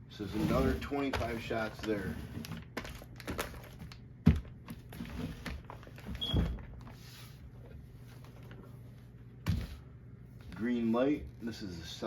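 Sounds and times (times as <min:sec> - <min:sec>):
cardboard rustling and scraping: 0:00.1 - 0:11.6.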